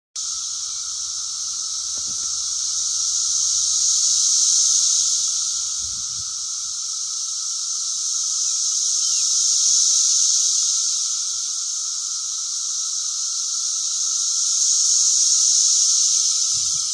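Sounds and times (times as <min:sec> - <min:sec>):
cicadas buzzing: 0:00.2 - 0:16.9.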